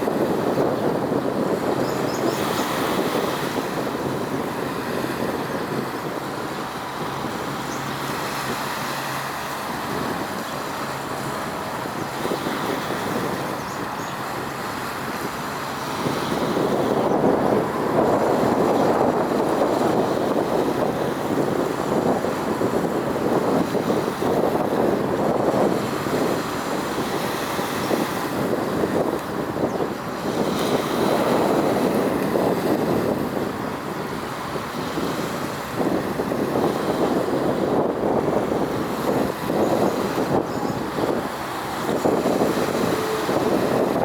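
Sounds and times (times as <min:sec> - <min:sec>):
wind on microphone: 0:00.0 - 0:44.0
road traffic rumble: 0:02.5 - 0:44.0.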